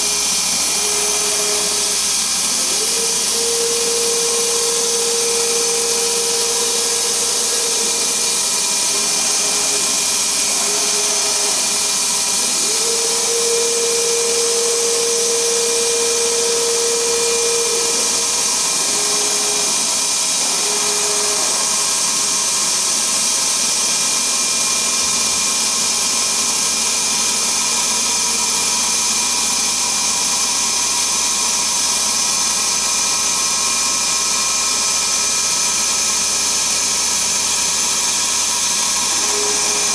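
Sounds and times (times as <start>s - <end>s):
drill machine motor whine: 0.0s - 39.9s.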